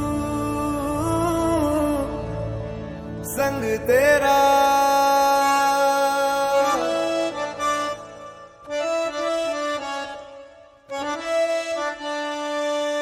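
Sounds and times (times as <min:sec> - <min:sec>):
instrumental film song melody: 0:00.0 - 0:13.0.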